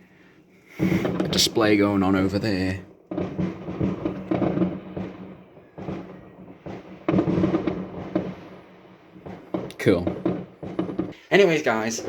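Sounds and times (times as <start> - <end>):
distant fireworks booming: 0.0 - 12.0.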